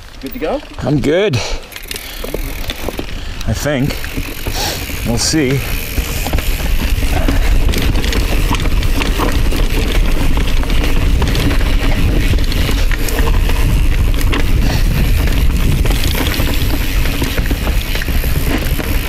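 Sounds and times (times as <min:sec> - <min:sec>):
bike clacking and rattling: 0:00.0 - 0:19.0
bike tyres rumbling over rocks: 0:00.0 - 0:19.0.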